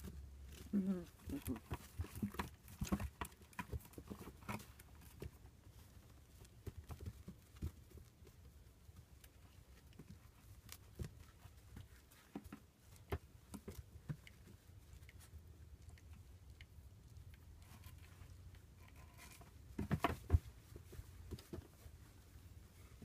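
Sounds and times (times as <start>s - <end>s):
puppy paws scrabbling and tapping: 0.0s - 23.0s.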